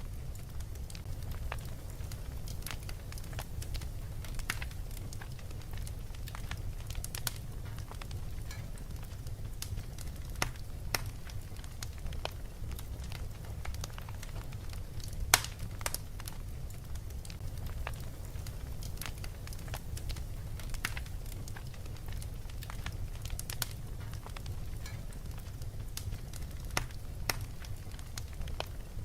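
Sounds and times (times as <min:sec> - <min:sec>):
fireplace crackling: 0:00.0 - 0:29.0
low steady rumble: 0:00.0 - 0:29.0.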